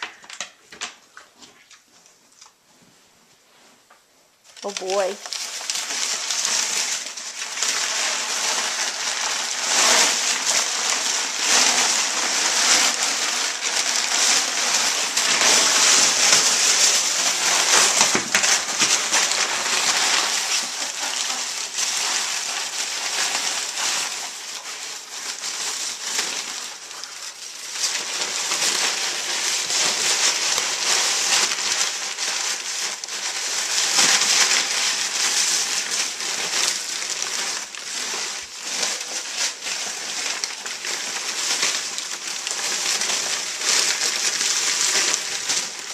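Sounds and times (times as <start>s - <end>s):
paper crinkling and rustling: 0.0s - 2.6s, 4.4s - 45.9s.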